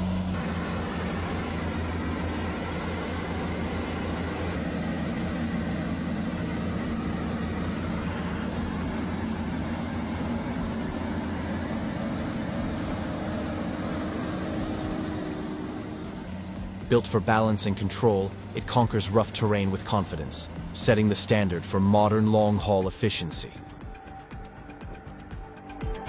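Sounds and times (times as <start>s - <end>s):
heavy truck engine running: 0.0s - 26.0s
road noise: 0.0s - 26.0s.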